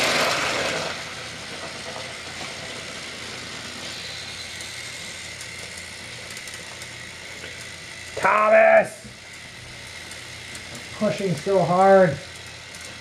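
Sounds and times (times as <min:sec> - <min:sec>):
toy train motor whirring: 0:00.0 - 0:13.0.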